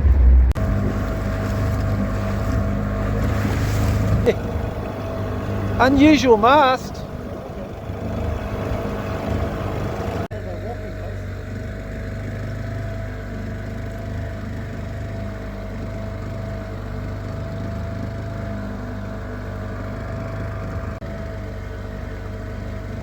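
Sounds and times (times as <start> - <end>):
outboard motor droning: 0.0 - 23.0.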